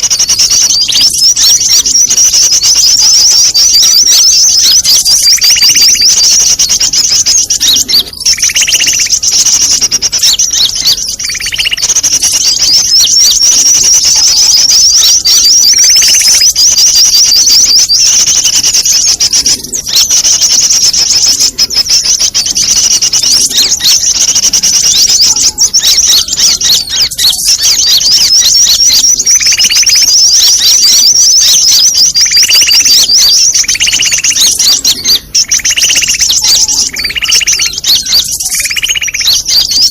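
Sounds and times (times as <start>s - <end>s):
lower rounder bird call notes: 0.0s - 39.9s
small birds twittering: 0.0s - 39.9s.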